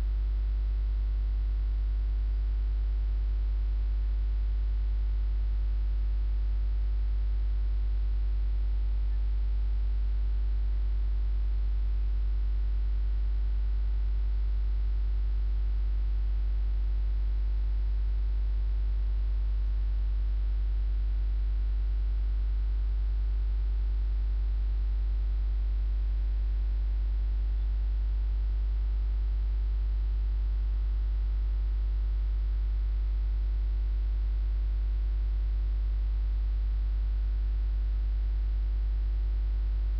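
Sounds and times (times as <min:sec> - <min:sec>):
electrical mains hum with hiss: 0:00.0 - 0:39.9.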